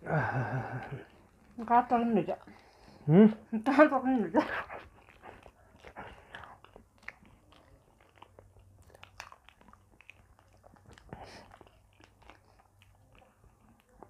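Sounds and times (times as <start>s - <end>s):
people chewing food: 0.0s - 14.0s.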